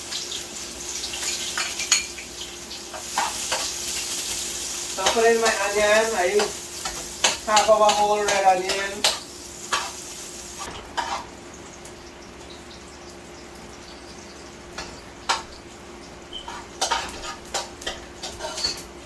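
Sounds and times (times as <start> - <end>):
onion sizzling in hot oil: 0.0 - 19.0.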